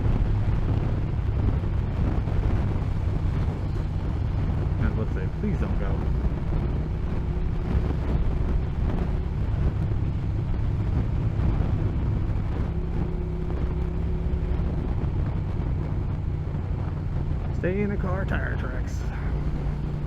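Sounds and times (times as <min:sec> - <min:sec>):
motorcycle engine cruising: 0:00.0 - 0:20.0
wind rumbling on microphone: 0:00.0 - 0:20.0.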